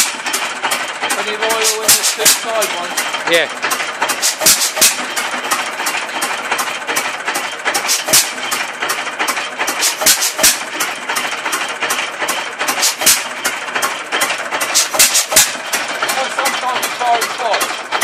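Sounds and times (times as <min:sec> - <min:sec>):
engine knocks: 0:00.0 - 0:18.0
stationary engine clattering: 0:00.0 - 0:18.0.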